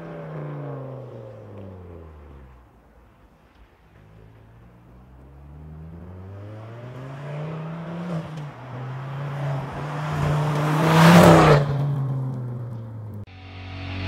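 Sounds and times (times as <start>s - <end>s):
car engine accelerating past: 0.0s - 13.3s.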